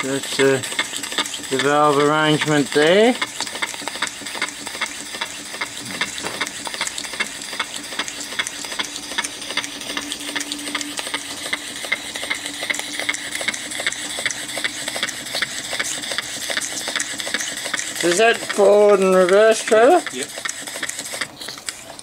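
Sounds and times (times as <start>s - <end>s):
model steam engine chuffing: 0.0s - 22.0s.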